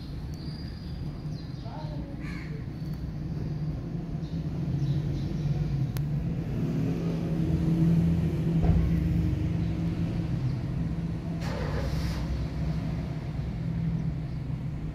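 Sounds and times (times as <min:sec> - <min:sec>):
engine humming: 0:00.0 - 0:14.9.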